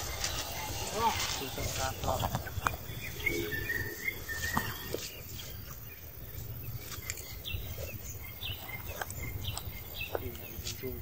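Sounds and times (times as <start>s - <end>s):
bird chirps: 0.0s - 11.0s
steady low rumble: 0.0s - 11.0s.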